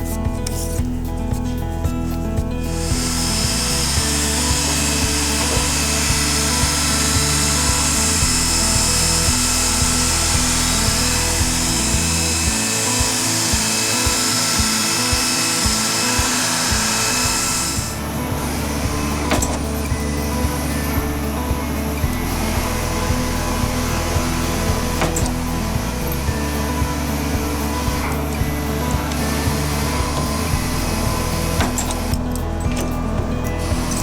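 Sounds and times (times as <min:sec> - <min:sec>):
background music: 0:00.0 - 0:34.0
power tool hissing and whining: 0:02.7 - 0:34.0.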